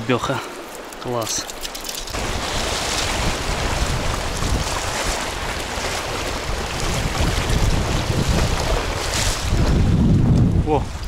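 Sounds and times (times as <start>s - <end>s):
rushing river water: 0.0s - 11.0s
wind buffeting microphone: 2.1s - 11.0s.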